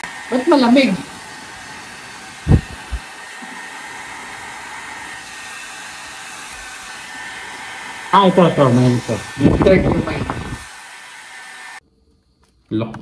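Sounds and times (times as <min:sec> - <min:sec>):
hot-air blower hissing: 0:00.0 - 0:11.8.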